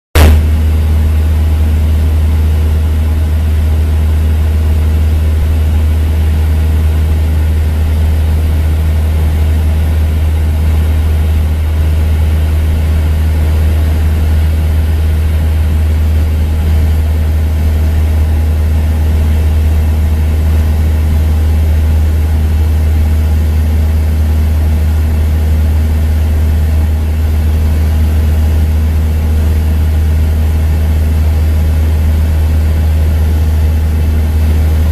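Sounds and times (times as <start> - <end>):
propeller plane engine droning: 0.2 - 34.9.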